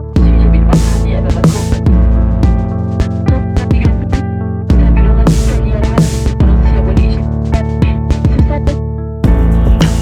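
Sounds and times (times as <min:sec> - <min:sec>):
electronic music with plucked guitar: 0:00.0 - 0:10.0.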